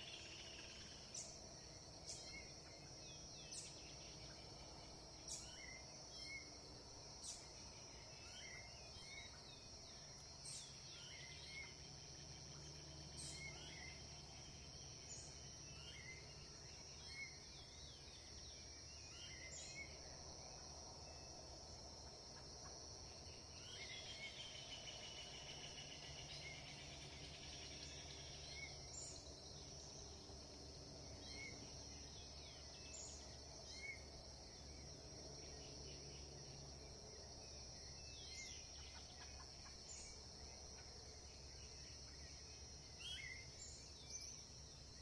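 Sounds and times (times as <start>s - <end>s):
high insect drone: 0.0s - 45.0s.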